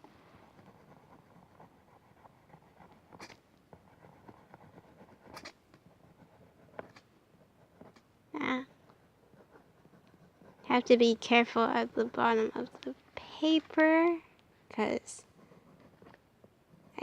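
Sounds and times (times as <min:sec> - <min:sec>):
pencil scratching on paper: 0:00.3 - 0:13.9, 0:15.2 - 0:17.0.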